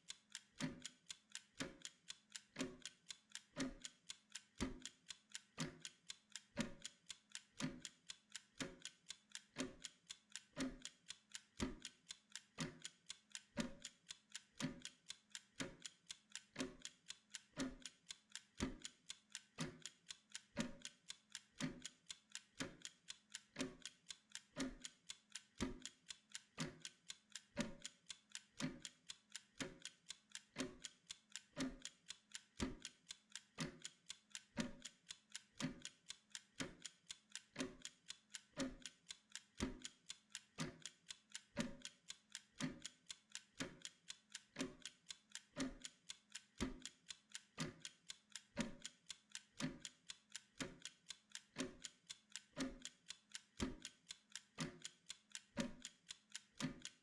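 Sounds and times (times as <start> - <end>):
kitchen timer ticking: 0.0 - 57.0.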